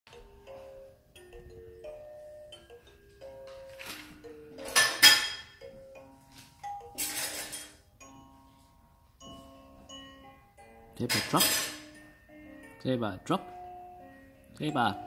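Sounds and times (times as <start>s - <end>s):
electronic lullaby tune: 0.1s - 11.1s, 11.8s - 15.0s.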